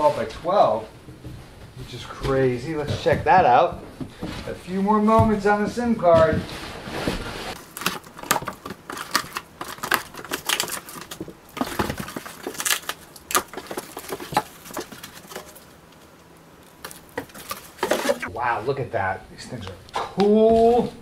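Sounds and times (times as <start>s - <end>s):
cardboard rustling and scraping: 0.0s - 18.3s.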